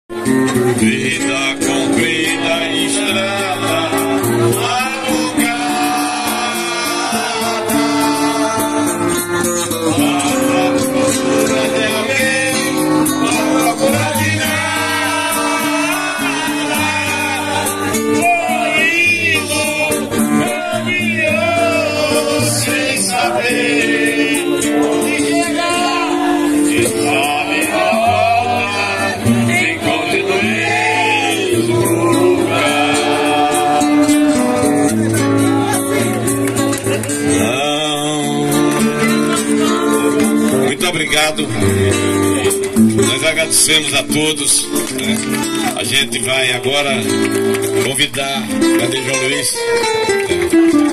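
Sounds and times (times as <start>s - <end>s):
instrumental accompaniment: 0.1s - 50.9s
group singing into microphone: 0.2s - 36.0s, 37.2s - 44.0s.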